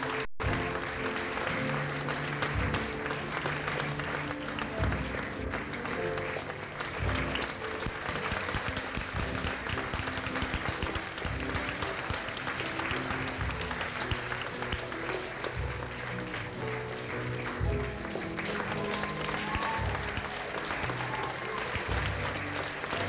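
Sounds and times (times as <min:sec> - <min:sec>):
audience applauding: 0:00.0 - 0:23.0
instrumental music: 0:00.0 - 0:23.0.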